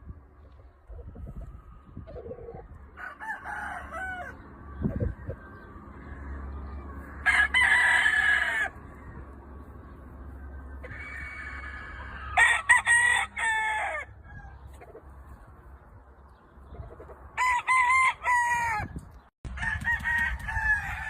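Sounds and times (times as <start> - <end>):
roosters crowing: 1.4 - 15.4, 16.8 - 21.0.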